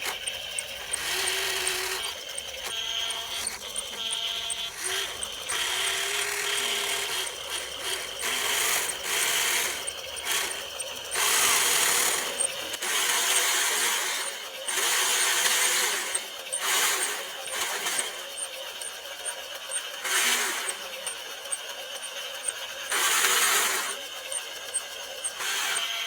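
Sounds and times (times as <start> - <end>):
motor driving plastic gears grinding: 0.0 - 26.0.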